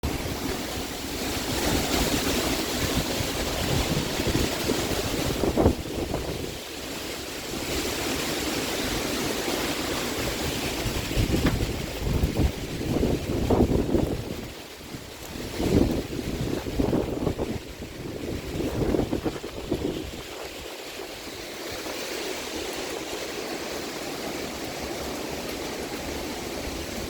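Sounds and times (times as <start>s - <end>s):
storm wind buffeting microphone: 0.0s - 27.0s.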